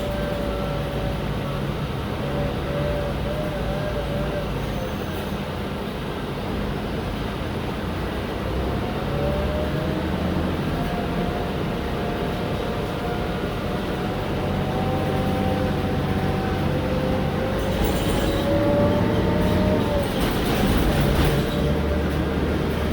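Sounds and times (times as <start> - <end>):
bus engine rumble: 0.0 - 22.9.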